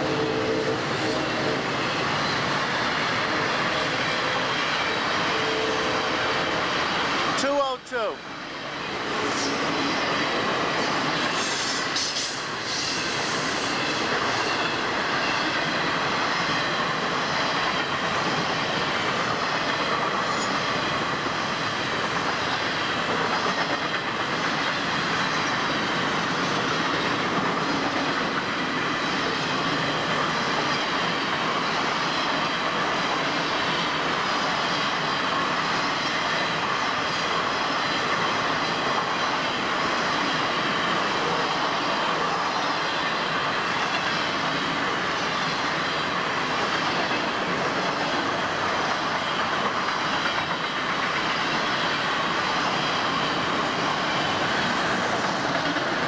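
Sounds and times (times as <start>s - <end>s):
freight train rolling past: 0.0s - 56.0s
rattling train cars: 0.0s - 56.0s
steel wheels on rails: 8.5s - 56.0s.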